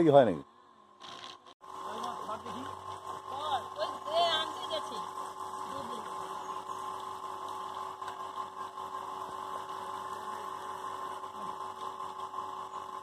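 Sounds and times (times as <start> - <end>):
water pump humming: 0.0 - 13.0.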